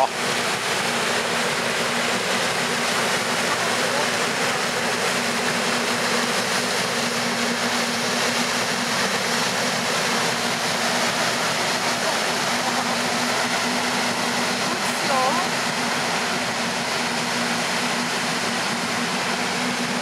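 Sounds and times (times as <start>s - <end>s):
paddle wheels churning water: 0.0s - 20.0s.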